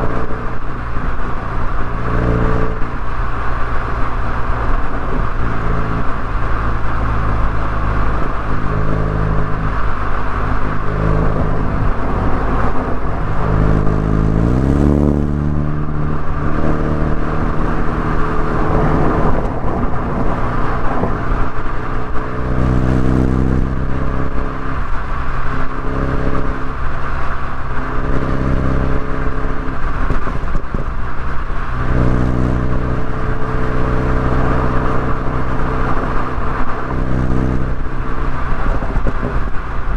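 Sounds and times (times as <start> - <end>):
car engine and exhaust revving: 0.0 - 39.9
road noise: 0.0 - 39.9.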